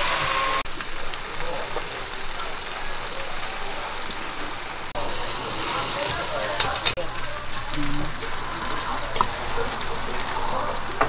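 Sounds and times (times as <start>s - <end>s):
egg sizzling in a pan: 0.0s - 11.0s.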